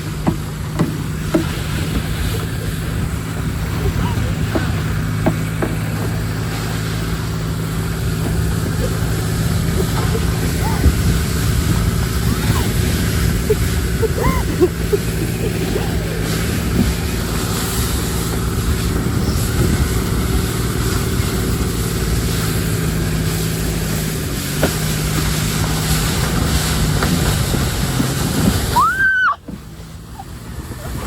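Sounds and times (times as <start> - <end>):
low steady hum: 0.0 - 31.0
wind buffeting microphone: 0.0 - 31.0.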